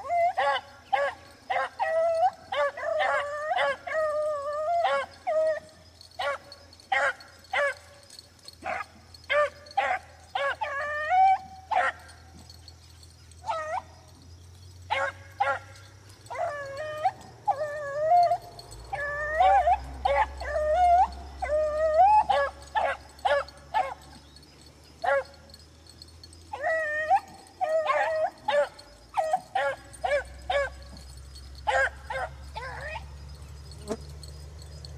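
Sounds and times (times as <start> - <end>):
hounds baying: 0.0 - 34.9
hounds chop barking: 0.0 - 34.9.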